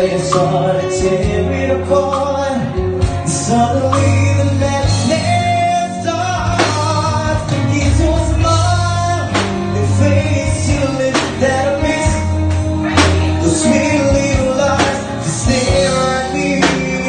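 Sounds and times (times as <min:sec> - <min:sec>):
amplified backing music: 0:00.0 - 0:17.0
man singing into a microphone: 0:00.0 - 0:17.0.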